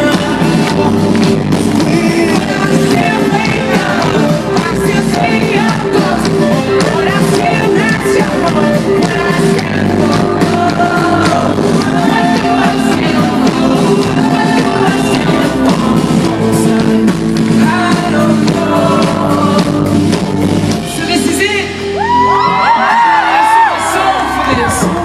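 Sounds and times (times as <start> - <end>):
live pop-rock band: 0.0 - 25.0
person singing: 0.0 - 25.0.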